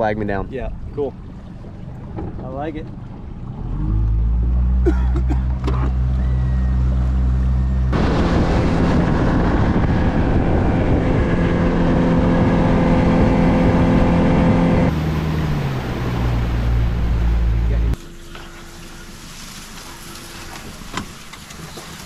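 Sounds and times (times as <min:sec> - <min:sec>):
boat motor running: 0:00.0 - 0:22.0
water rushing: 0:00.0 - 0:22.0.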